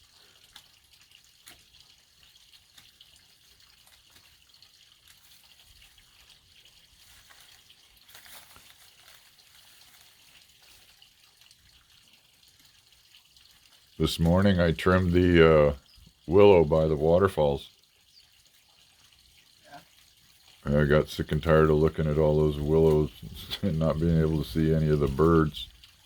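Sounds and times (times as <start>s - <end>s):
trickle of water from waterfall: 0.0s - 26.0s.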